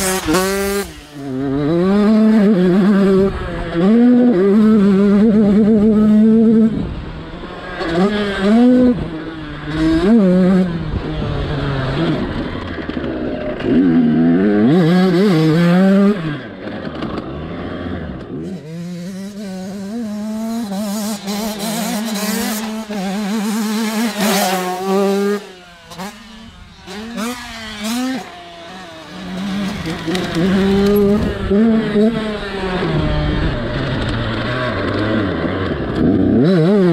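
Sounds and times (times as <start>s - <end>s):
motocross bike engine revving: 0.0s - 36.9s.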